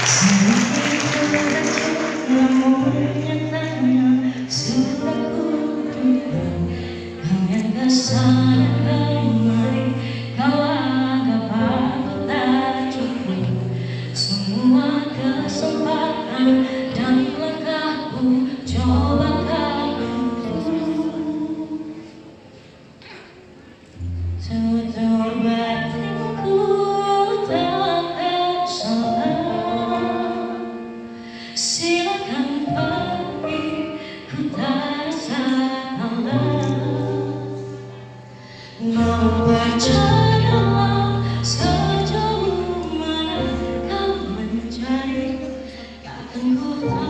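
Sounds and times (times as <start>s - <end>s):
woman singing into microphone: 0.0s - 22.4s, 24.2s - 47.0s.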